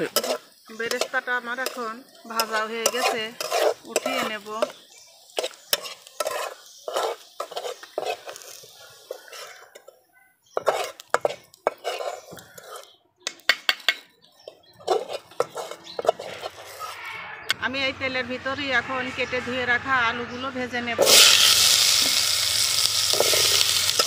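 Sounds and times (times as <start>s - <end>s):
metal utensil scraping wok: 0.0s - 13.0s, 13.7s - 17.6s, 21.0s - 24.0s.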